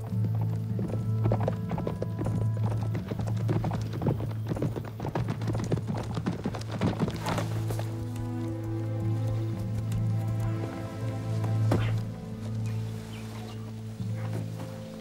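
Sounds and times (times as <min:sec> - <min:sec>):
background music: 0:00.0 - 0:15.0
horse galloping on dirt: 0:00.0 - 0:15.0.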